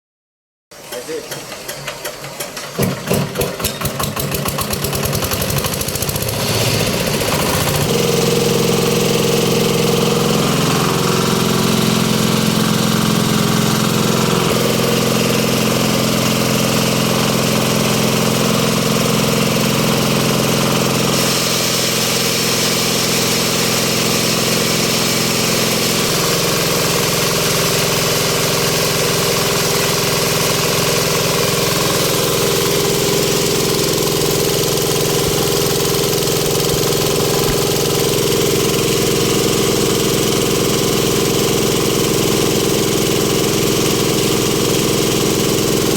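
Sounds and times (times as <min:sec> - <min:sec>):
machine engine starting and running: 0:00.7 - 0:45.9.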